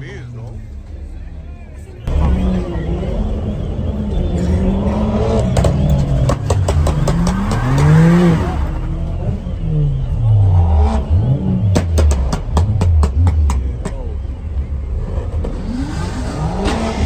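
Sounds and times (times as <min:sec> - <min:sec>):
car engine revving: 0:00.0 - 0:17.0
exhaust pops and crackles: 0:00.0 - 0:17.0.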